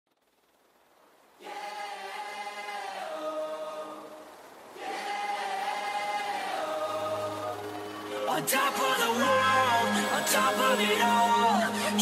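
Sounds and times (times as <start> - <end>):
choir singing held chords: 1.4 - 12.0.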